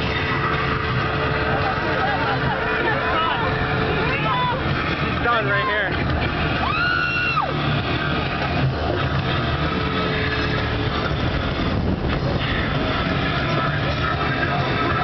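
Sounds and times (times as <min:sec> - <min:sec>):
motorboat engine running: 0:00.0 - 0:15.0
rush of wind and water: 0:00.0 - 0:15.0.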